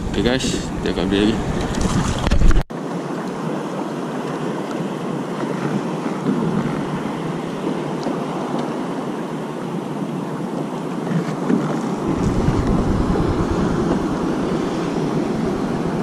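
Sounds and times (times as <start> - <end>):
wind on microphone: 0.0 - 2.6, 3.4 - 16.0
choppy water washing around kayak: 0.0 - 16.0.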